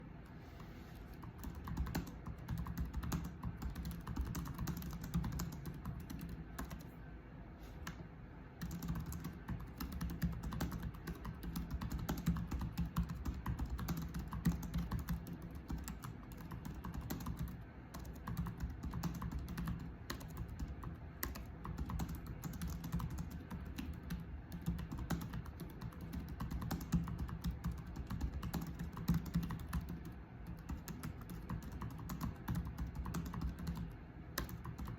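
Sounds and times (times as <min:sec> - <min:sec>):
computer keyboard typing: 0:01.1 - 0:07.0, 0:08.6 - 0:34.9.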